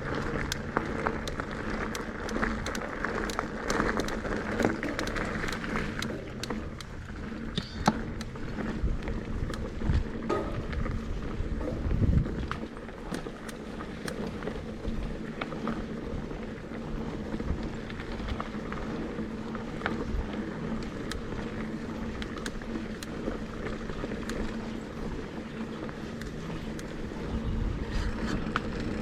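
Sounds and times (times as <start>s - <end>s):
bike clicks and rattles: 0.0s - 29.0s
mountain bike tyre and drivetrain noise: 0.0s - 29.0s.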